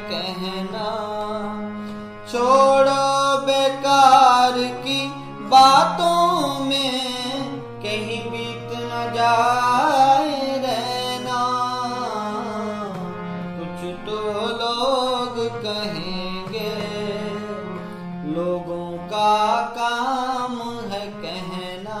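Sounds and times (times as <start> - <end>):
harmonium chords: 0.0 - 22.0
man singing: 0.0 - 22.0.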